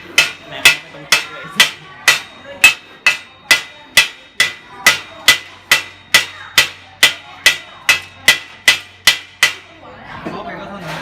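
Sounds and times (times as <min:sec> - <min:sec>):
hammer striking steel plate: 0:00.0 - 0:09.7.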